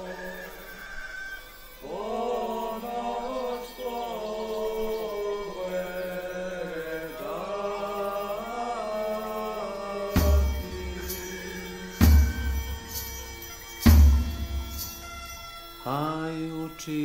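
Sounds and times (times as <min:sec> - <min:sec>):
low drone: 0:00.0 - 0:16.9
voices chanting: 0:00.0 - 0:17.0.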